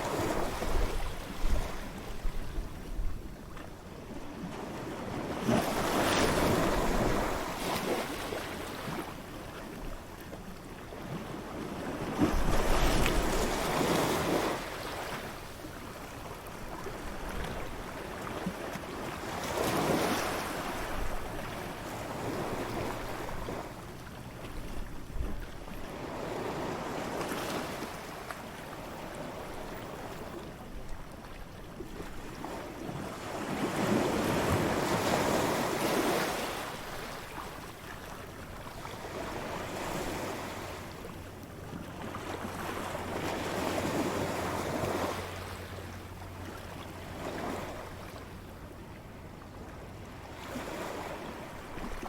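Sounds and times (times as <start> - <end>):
light wind: 0.0 - 52.0
ocean waves breaking on beach: 0.0 - 52.0.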